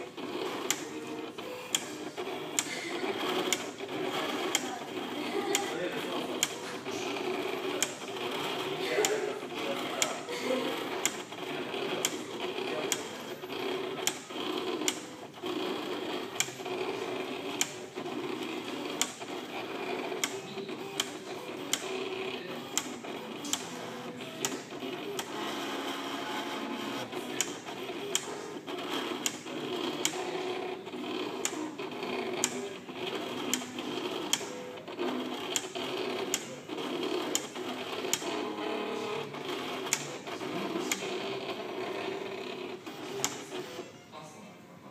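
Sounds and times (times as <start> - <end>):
paper cutting machine whirring: 0.0 - 44.1
sharp machine clicks: 0.5 - 10.2, 10.8 - 26.5, 27.4 - 41.6, 42.4 - 43.8.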